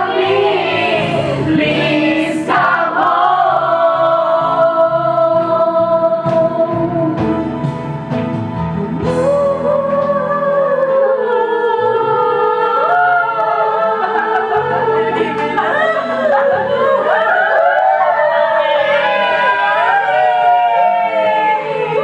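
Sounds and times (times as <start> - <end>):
overlapping voices: 0.0 - 7.0, 9.9 - 22.0
singing with musical accompaniment: 0.0 - 22.0.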